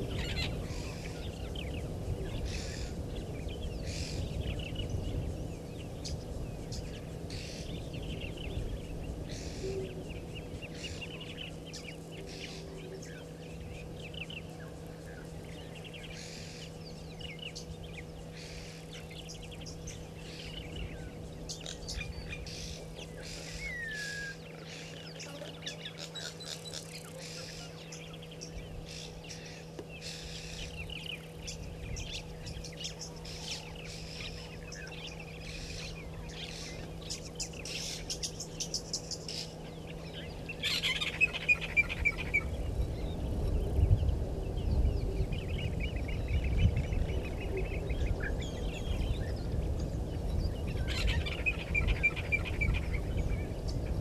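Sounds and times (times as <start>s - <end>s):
birds chirping: 0.0s - 54.0s
low hum and rumbling: 0.0s - 54.0s.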